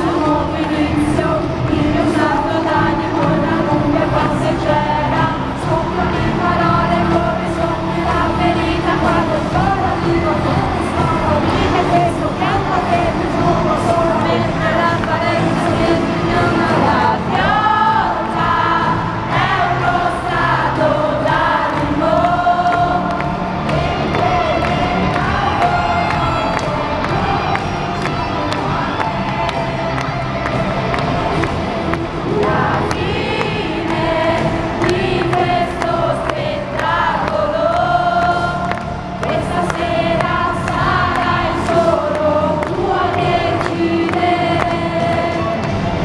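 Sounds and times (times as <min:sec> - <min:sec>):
crowd singing along: 0:00.0 - 0:46.0
live pop-rock band: 0:00.0 - 0:46.0.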